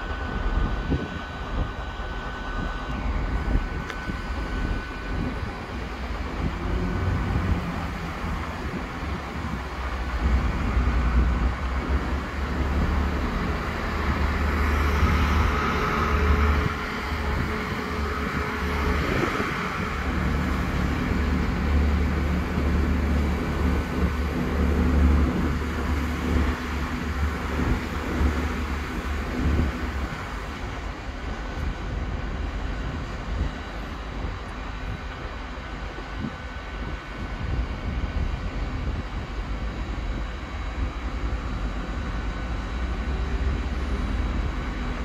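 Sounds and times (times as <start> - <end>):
diesel train engine rumble: 0.0 - 45.0.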